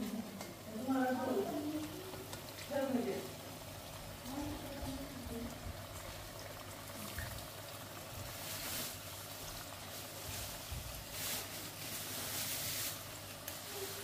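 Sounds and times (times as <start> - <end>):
steady hiss from cooking pot: 0.0 - 14.0.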